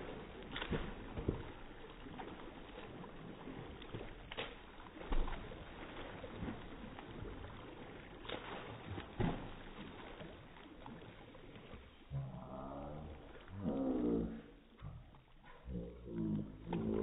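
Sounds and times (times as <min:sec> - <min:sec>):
child splashing in pool: 0:00.0 - 0:17.0.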